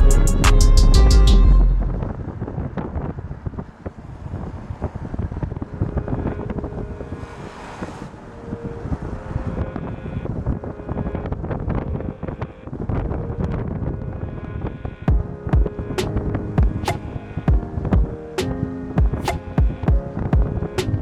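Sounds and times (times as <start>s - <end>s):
road and wind rumble in car: 1.8s - 21.0s.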